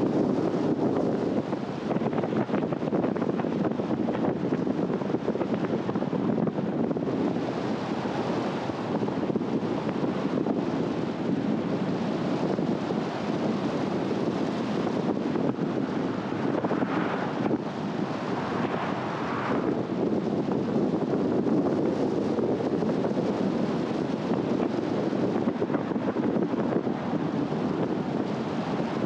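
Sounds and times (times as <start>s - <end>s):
car road and wind noise: 0.0s - 29.0s.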